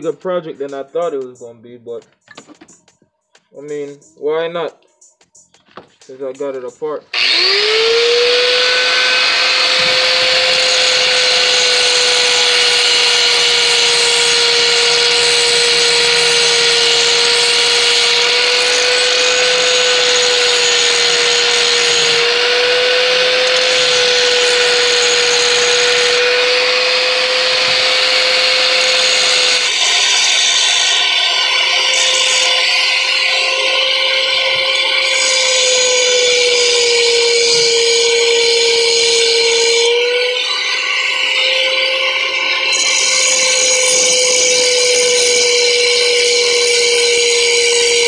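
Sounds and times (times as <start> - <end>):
rotary grinder whining: 7.1 - 48.0.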